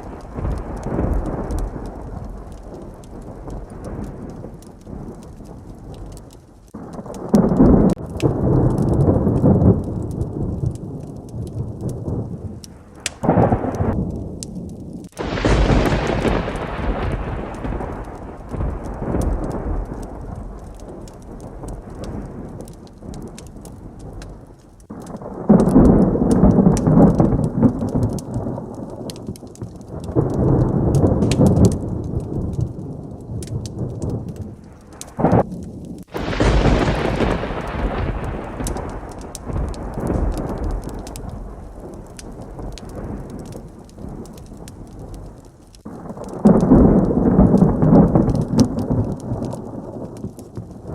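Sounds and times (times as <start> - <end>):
steady rain: 0.0 - 50.9
thunder clap: 0.0 - 50.9
thunder rolling: 0.0 - 50.9.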